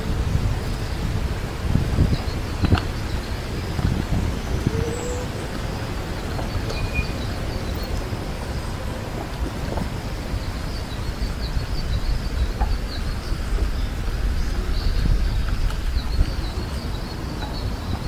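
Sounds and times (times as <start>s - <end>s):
wind rumble on microphone: 0.0s - 18.0s
small birds chirping: 0.7s - 18.0s.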